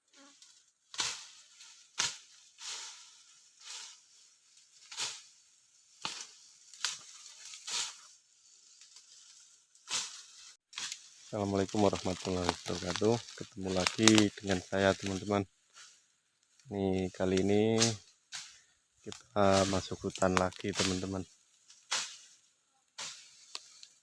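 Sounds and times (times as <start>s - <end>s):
dry crunching rustles: 0.0s - 24.0s.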